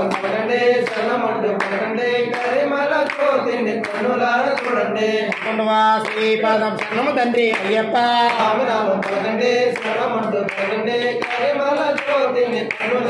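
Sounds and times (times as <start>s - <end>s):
hand claps keeping time: 0.0s - 13.0s
voices singing devotional song: 0.0s - 13.0s.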